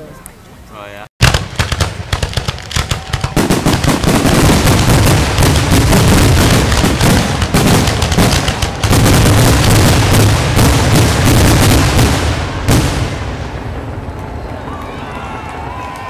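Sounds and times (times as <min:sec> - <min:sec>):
fireworks booming and crackling: 0:01.2 - 0:14.2.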